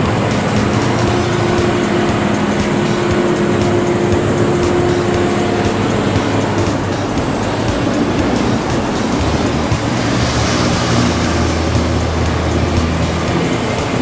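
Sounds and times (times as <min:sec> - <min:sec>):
diesel engine droning under load: 0:00.0 - 0:14.0.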